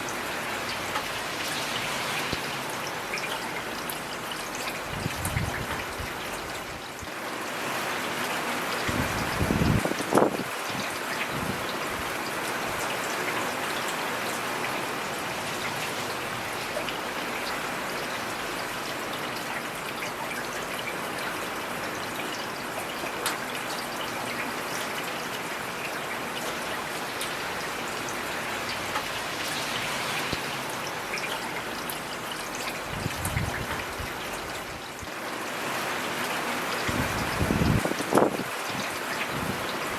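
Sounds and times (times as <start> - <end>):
heavy rain: 0.0 - 39.9
raindrops ticking on hard surfaces: 0.0 - 39.9.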